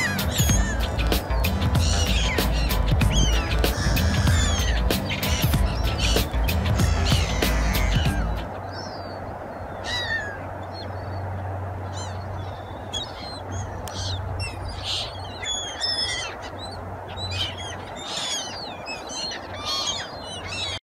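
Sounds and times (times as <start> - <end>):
gulls calling: 0.0 - 20.8.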